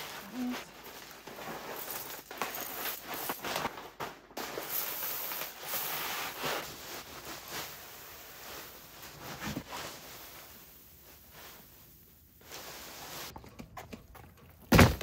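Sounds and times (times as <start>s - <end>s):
plastic bags rustling: 0.0s - 13.4s.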